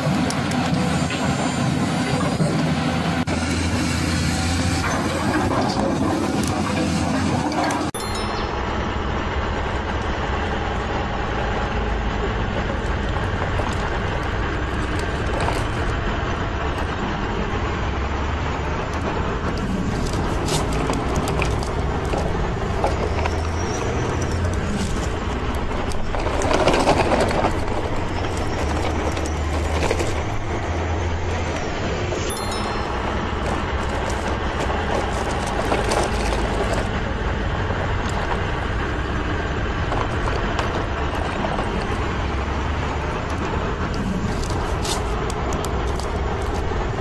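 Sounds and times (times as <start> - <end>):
truck engine rumbling: 0.0 - 47.0.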